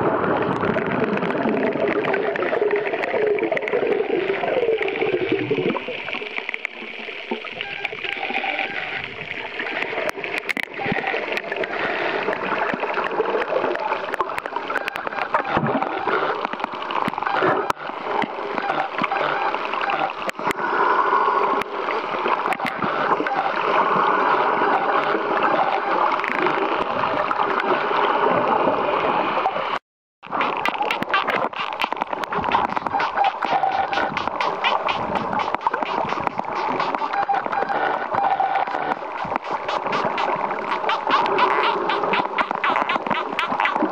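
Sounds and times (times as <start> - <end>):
water gurgling and splashing: 0.0 - 43.9.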